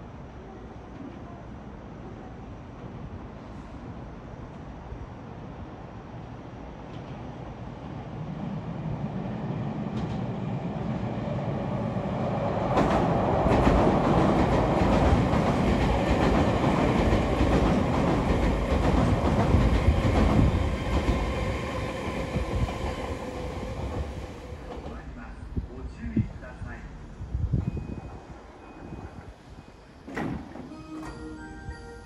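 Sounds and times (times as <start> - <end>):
train passing: 2.7 - 32.0.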